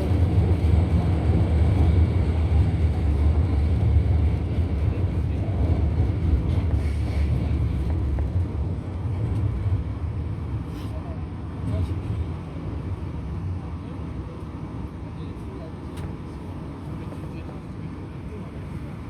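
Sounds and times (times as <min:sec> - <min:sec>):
low rumble in train carriage: 0:00.0 - 0:19.0.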